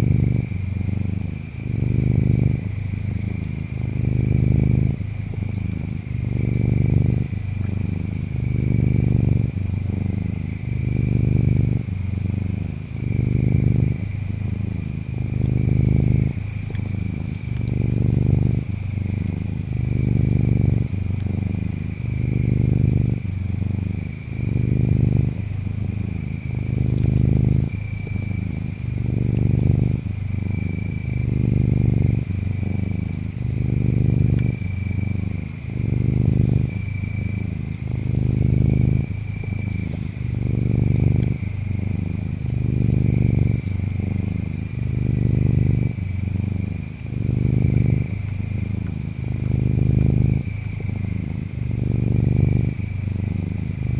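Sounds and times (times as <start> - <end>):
cat purring: 0.0 - 53.9
insects chirping: 0.0 - 53.9.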